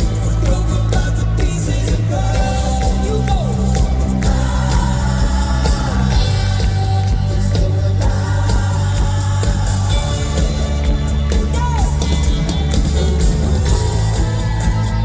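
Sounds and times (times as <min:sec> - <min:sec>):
wordless singing: 0:00.0 - 0:14.2
live pop-rock band playing: 0:00.0 - 0:15.0.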